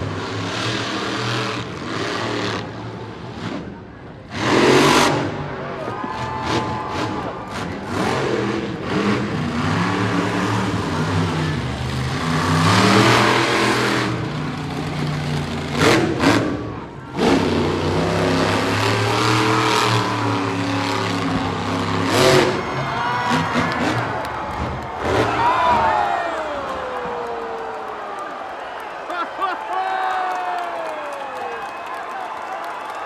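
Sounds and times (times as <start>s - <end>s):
monster truck engine revving: 0.0s - 29.3s.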